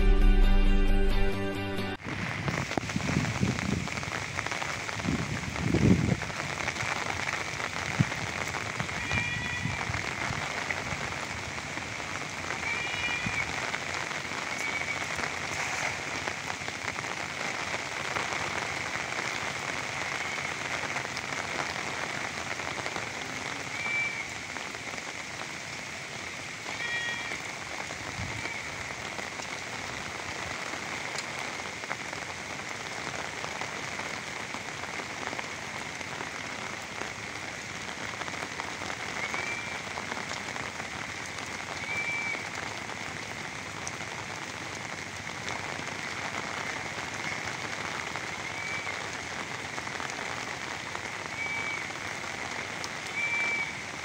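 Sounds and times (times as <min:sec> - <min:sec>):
rain falling on pond: 0:02.0 - 0:54.0.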